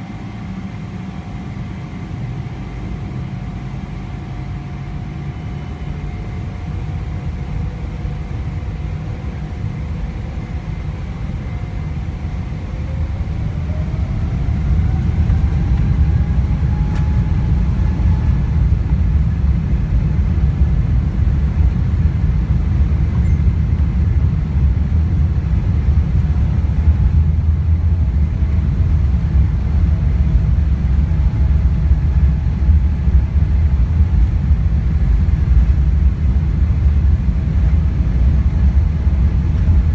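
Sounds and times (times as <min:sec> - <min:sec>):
jet engine whine: 0:00.0 - 0:39.9
low engine rumble: 0:00.0 - 0:39.9.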